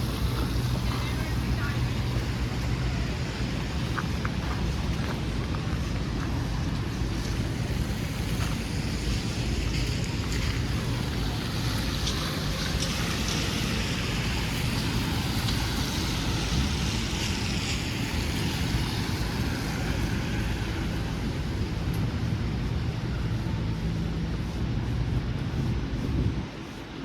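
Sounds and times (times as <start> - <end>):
tyres hissing on passing vehicle: 0.0 - 26.8
low rumble of engines: 0.0 - 27.0.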